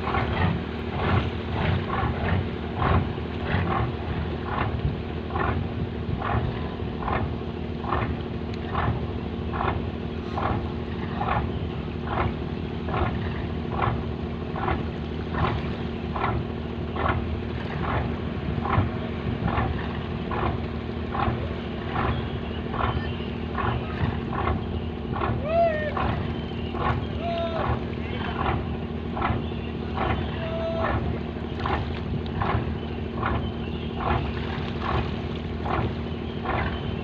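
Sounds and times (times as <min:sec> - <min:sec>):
boat diesel engine pulsing: 0:00.0 - 0:37.0.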